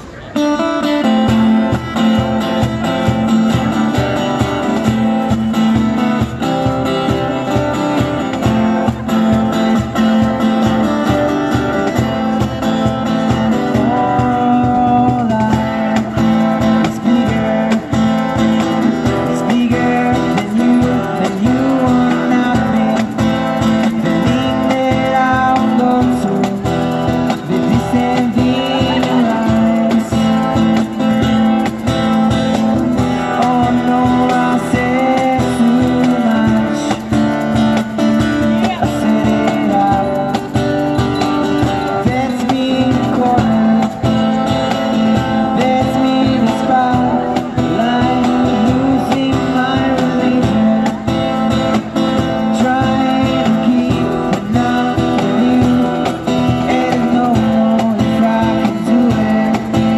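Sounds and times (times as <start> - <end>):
acoustic guitar strumming: 0.0 - 59.9
cajon beat: 0.0 - 59.9
man singing through amplifier: 0.0 - 59.9.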